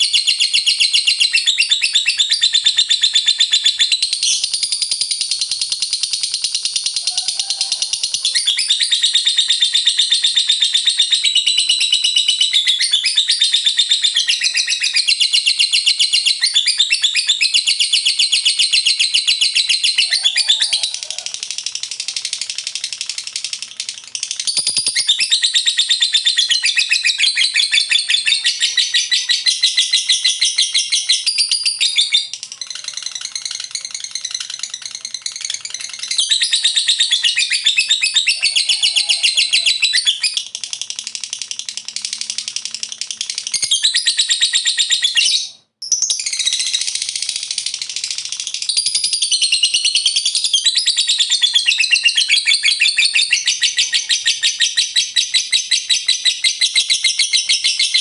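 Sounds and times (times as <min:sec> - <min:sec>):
lovebird chattering song: 0:00.0 - 0:58.0.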